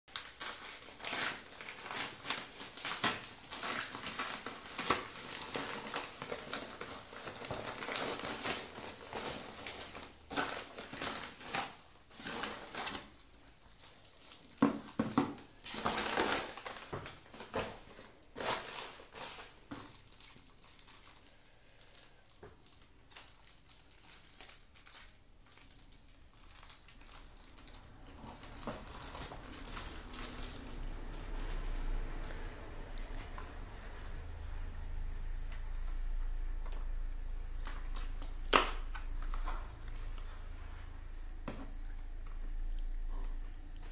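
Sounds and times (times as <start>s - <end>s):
padded paper mailer crinkling: 0.1s - 41.0s.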